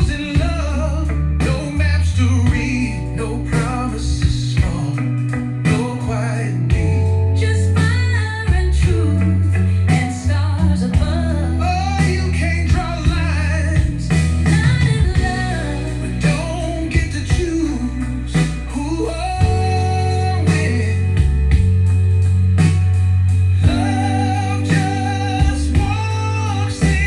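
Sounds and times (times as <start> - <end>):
person singing: 0.0 - 21.7, 23.5 - 27.0
guitar: 0.0 - 27.0
heavy steady bass line: 0.0 - 27.0.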